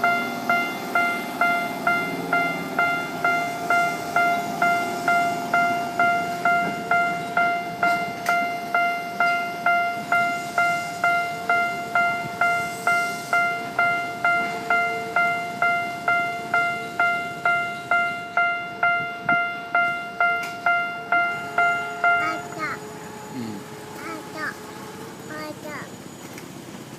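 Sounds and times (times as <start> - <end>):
level-crossing warning bell ringing: 0.0 - 26.2.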